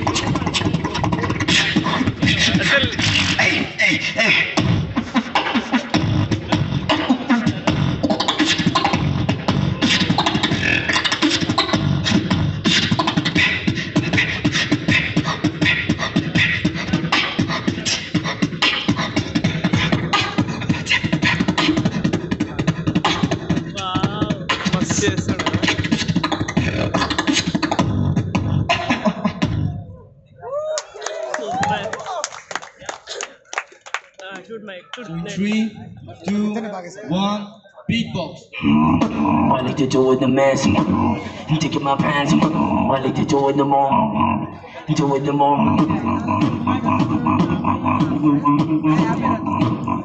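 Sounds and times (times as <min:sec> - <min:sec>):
heavy bass: 0:00.0 - 0:30.0, 0:38.6 - 0:50.0
beatboxing through speakers: 0:00.0 - 0:30.1, 0:31.5 - 0:50.0.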